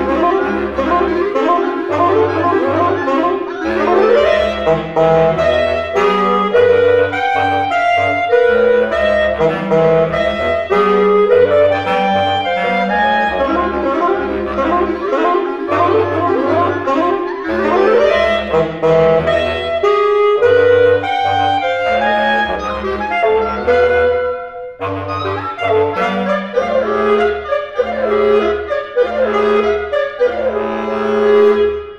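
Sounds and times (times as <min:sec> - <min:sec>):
reed quintet playing: 0:00.0 - 0:31.9.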